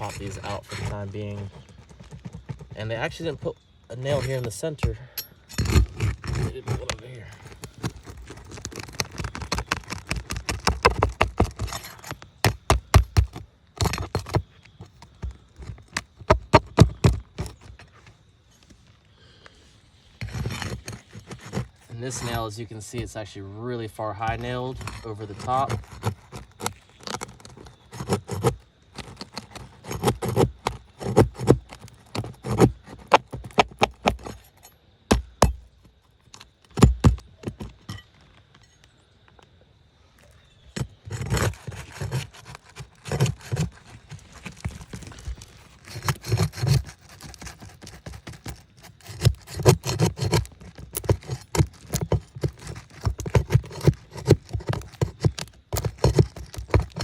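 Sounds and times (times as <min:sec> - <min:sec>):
metal tool scraping shingles: 0:00.0 - 0:18.1, 0:20.0 - 0:35.7, 0:40.8 - 0:57.0.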